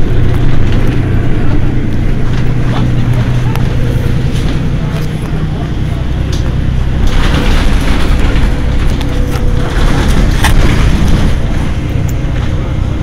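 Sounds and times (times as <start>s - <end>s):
bus engine deep rumble: 0.0s - 13.0s.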